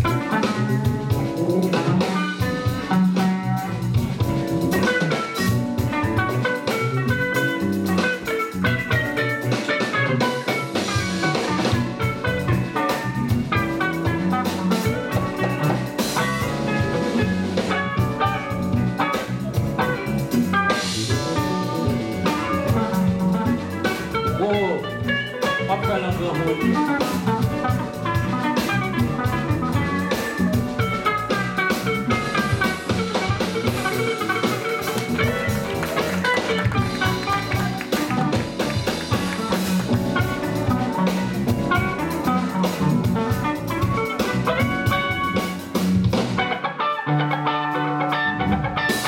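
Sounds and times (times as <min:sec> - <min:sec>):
live gospel band playing: 0:00.0 - 0:49.0.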